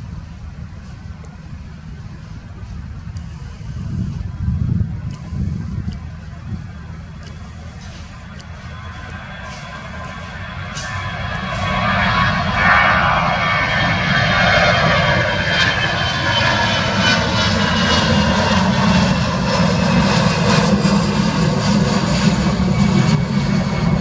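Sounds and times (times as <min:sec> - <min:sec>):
jet engines at takeoff power: 0:00.0 - 0:24.0.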